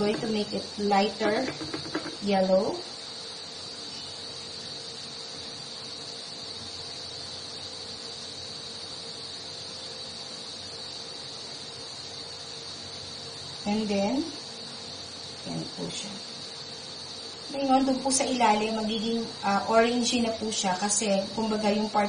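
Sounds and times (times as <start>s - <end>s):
insect chirring: 0.0s - 22.0s.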